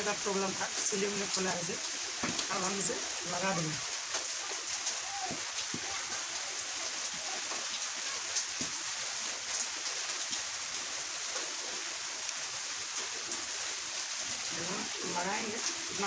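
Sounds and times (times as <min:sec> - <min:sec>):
steady rain-like hiss: 0:00.0 - 0:16.0.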